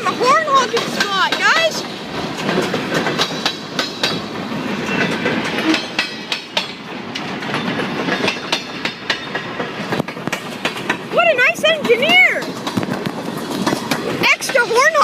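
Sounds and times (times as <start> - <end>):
freight train rumble: 0.0 - 15.0
train wheels clacking over rail joints: 0.0 - 15.0.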